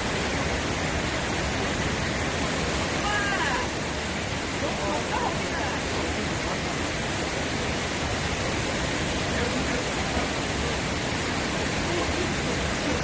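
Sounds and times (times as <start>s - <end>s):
stream water flowing: 0.0s - 13.0s.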